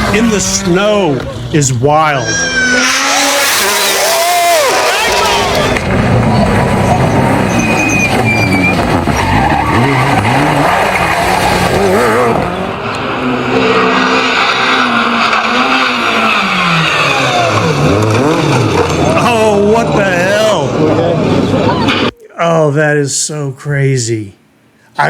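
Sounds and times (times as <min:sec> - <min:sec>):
rally car engines revving: 0:00.0 - 0:22.2
tyres skidding: 0:00.0 - 0:22.2.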